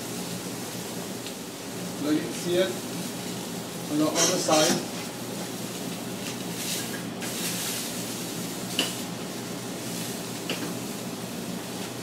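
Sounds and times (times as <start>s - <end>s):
fish sizzling in a pan: 1.8s - 12.0s.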